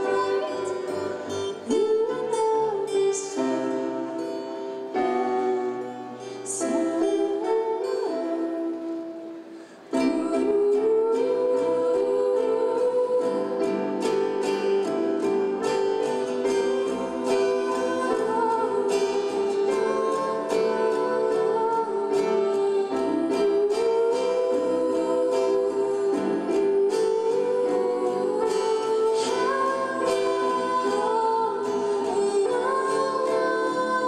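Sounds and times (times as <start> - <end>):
strummed acoustic guitar: 0.0 - 34.0
women singing duet: 0.0 - 34.0.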